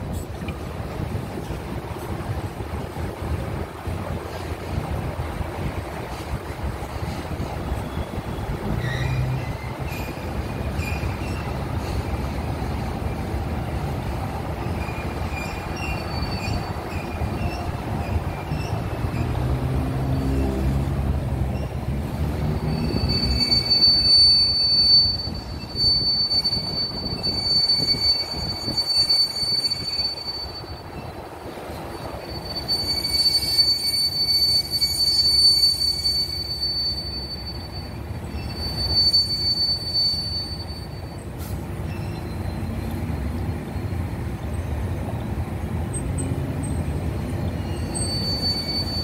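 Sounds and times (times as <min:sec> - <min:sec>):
train wheels rumbling on rails: 0:00.0 - 0:49.0
high-pitched wheel squeal: 0:06.1 - 0:13.4, 0:14.0 - 0:44.0, 0:45.9 - 0:49.0.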